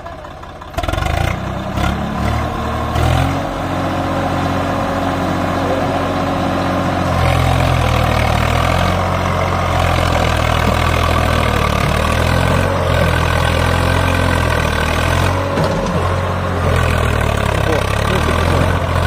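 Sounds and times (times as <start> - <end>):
diesel tractor engine under load: 0.0 - 19.0.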